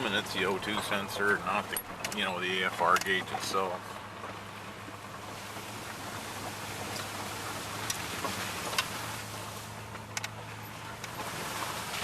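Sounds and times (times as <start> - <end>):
engine hum: 0.0 - 12.0
road noise: 0.0 - 12.0.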